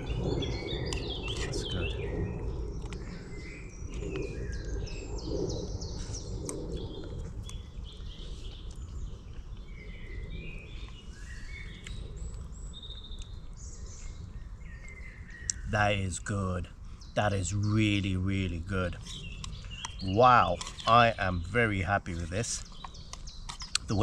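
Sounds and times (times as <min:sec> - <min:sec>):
songbirds singing and chirping: 0:00.0 - 0:24.0.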